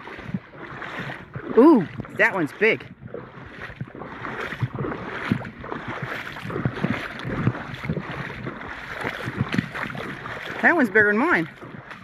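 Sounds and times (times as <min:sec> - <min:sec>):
creek water splashing: 0:00.0 - 0:12.0.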